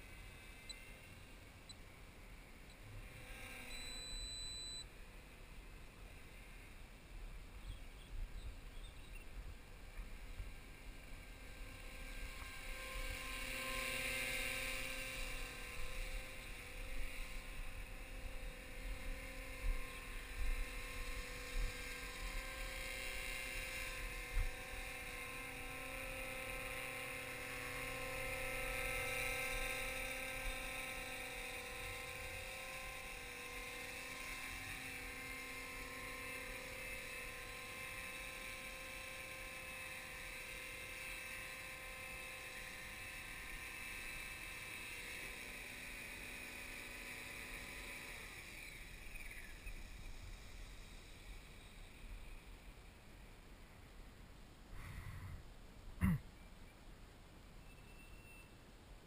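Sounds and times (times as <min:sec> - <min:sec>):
rc helicopter hovering: 0:00.0 - 0:53.8.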